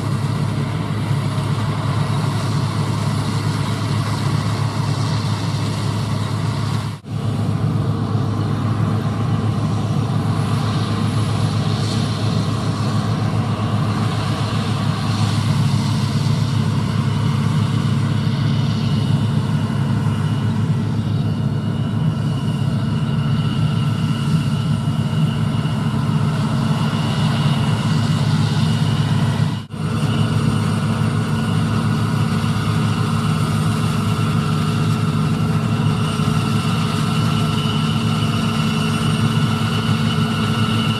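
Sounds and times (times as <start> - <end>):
faint high whine: 0.0 - 40.9
heavy diesel engines humming: 0.0 - 40.9.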